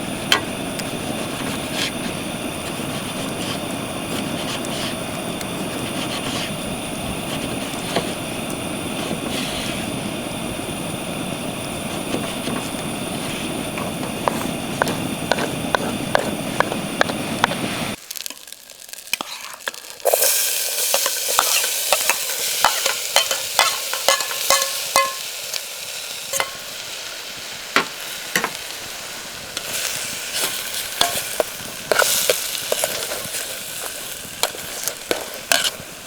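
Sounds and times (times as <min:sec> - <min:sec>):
wood fire burning: 0:00.0 - 0:36.0
crackling pops: 0:00.2 - 0:25.6, 0:27.4 - 0:36.0.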